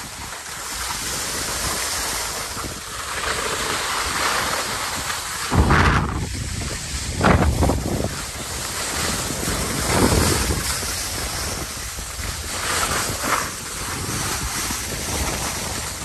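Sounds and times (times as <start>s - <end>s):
skis scraping on snow: 0.0s - 16.0s
wind buffeting the microphone: 0.0s - 16.0s.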